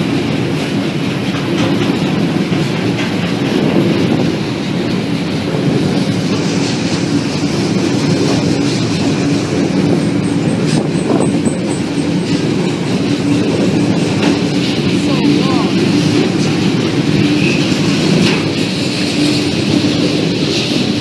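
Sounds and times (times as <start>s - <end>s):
electric train running hum: 0.0s - 21.0s
rail clatter: 0.0s - 21.0s.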